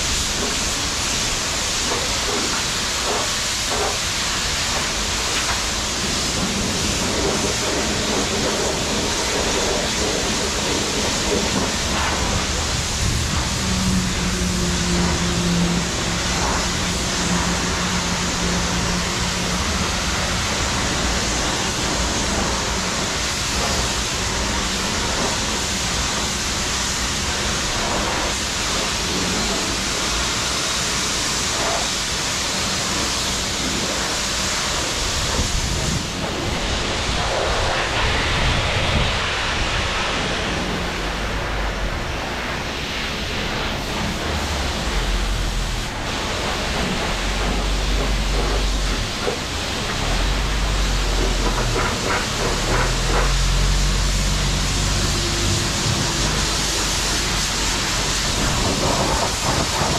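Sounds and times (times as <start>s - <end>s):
pressure washer spraying a car: 0.0s - 59.9s.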